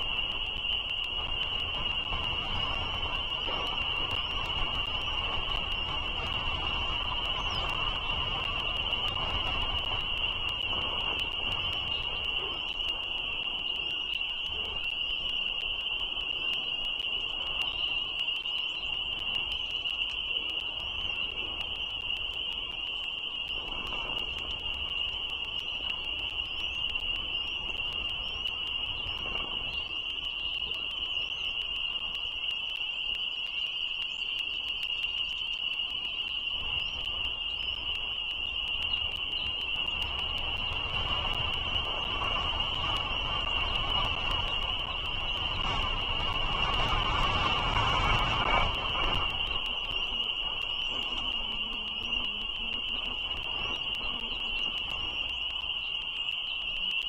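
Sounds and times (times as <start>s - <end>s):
chorus of frogs ringing: 0.0s - 57.0s.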